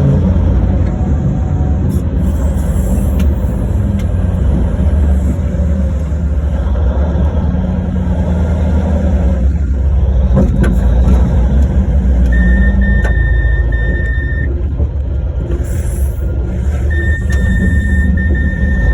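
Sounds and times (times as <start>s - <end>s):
haul truck low rumble: 0.0s - 18.9s.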